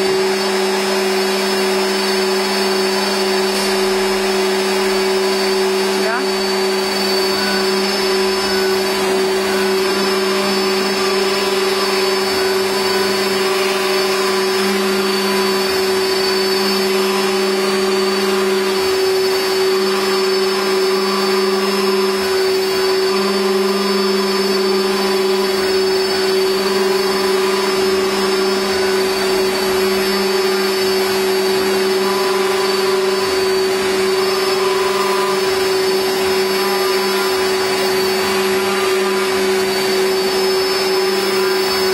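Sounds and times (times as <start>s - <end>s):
cnc router whining and humming: 0.0s - 41.9s
cutter milling wood: 0.0s - 41.9s.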